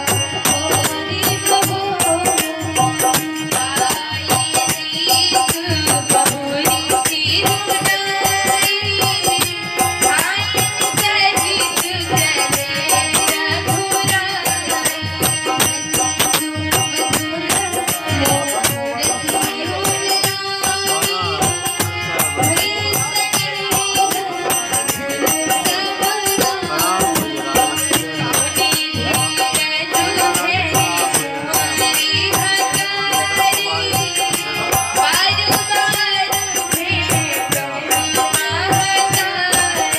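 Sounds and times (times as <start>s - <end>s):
harmonium chords: 0.0s - 39.9s
woman singing: 0.0s - 39.9s.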